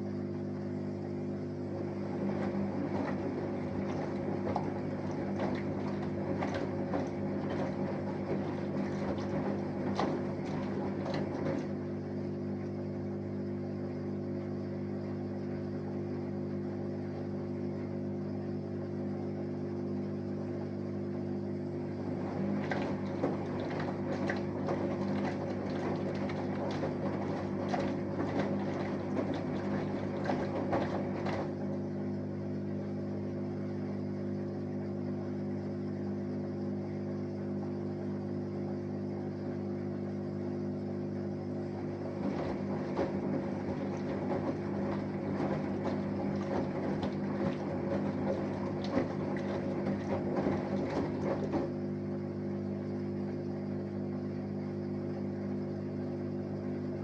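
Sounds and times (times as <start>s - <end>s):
laundry sloshing in drum: 0.0s - 57.0s
washing machine hum: 0.0s - 57.0s.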